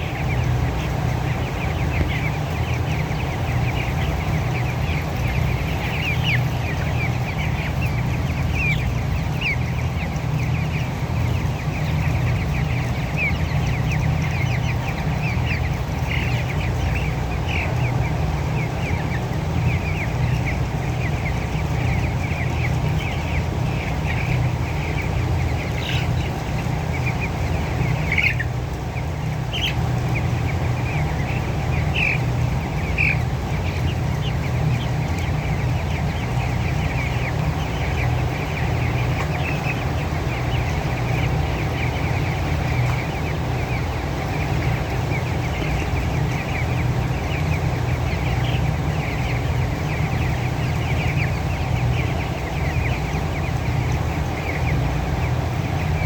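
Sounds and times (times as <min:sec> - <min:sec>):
chickens cheeping: 0:00.0 - 0:56.0
steady low hum: 0:00.0 - 0:56.0.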